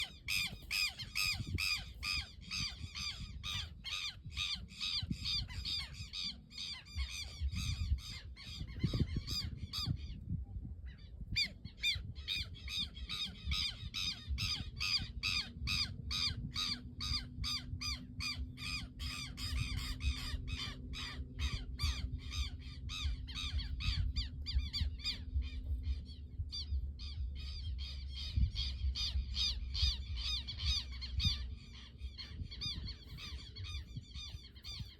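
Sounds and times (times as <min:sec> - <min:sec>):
flock of birds chirping: 0:00.0 - 0:34.9
low rumble: 0:00.0 - 0:34.9.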